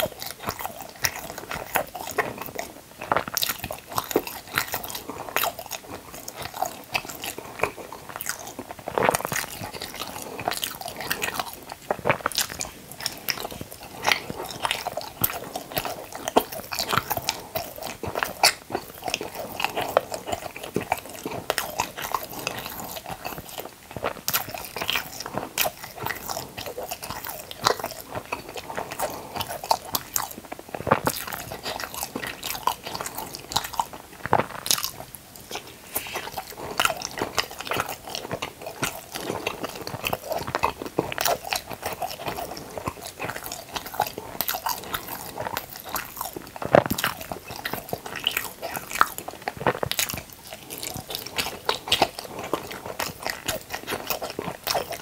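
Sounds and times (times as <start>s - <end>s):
biting and chewing food: 0.0s - 55.0s.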